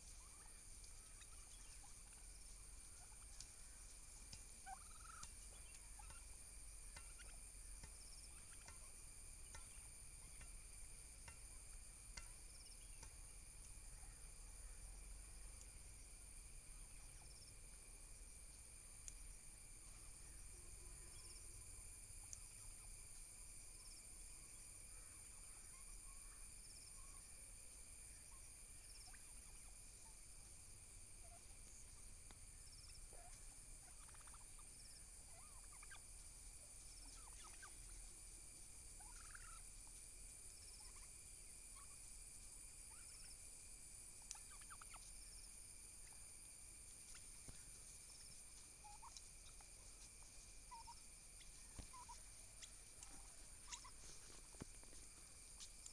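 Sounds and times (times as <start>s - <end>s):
turkeys calling: 0.0s - 43.5s, 44.2s - 55.9s.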